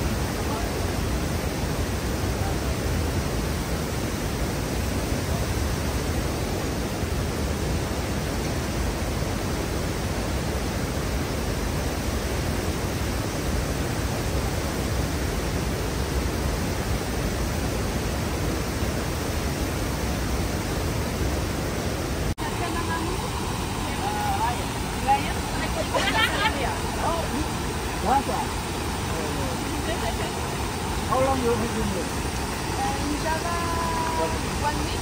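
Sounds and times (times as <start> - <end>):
water rushing over a weir: 0.0 - 35.0.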